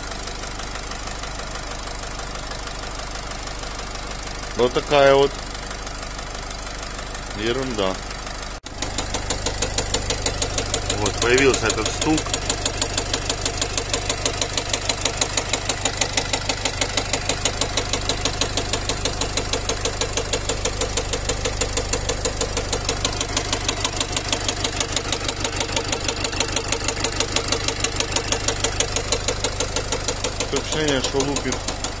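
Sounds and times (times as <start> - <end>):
diesel engine heavy knocking: 0.0 - 32.0.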